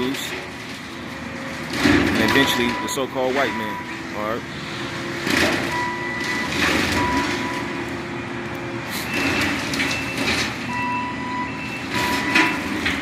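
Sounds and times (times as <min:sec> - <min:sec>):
vehicle noise: 0:00.0 - 0:13.0.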